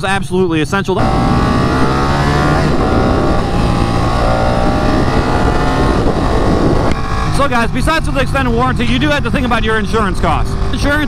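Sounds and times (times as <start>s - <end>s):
motorcycle engine accelerating: 1.0s - 11.0s.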